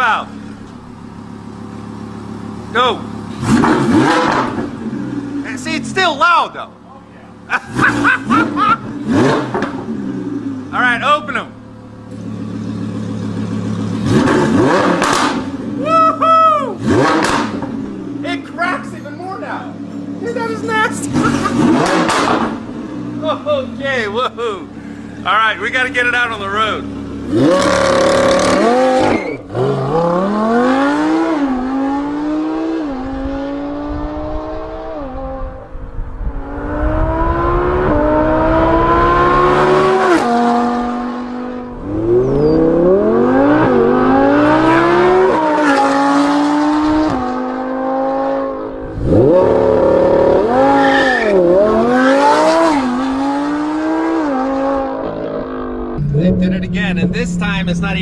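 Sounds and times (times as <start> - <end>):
sports car engine accelerating hard: 0.0 - 58.0.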